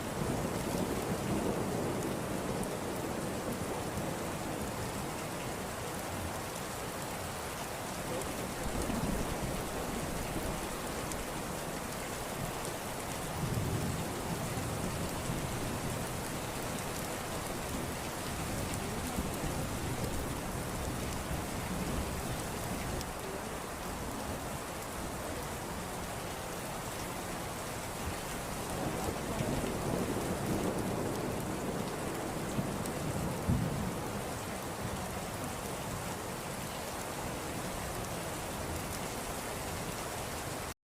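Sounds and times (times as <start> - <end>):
steady rain: 0.0 - 40.8.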